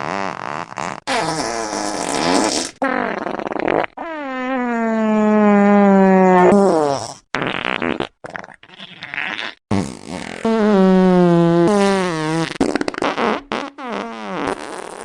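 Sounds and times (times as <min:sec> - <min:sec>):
fart sound effects: 0:00.0 - 0:15.0.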